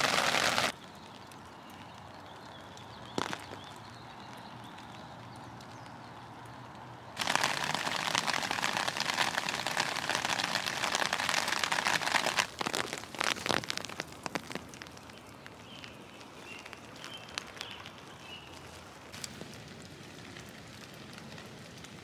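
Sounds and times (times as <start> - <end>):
rain hiss: 0.0 - 5.8, 7.1 - 22.0
dense rain patter: 0.0 - 22.0
water drips: 0.0 - 22.0.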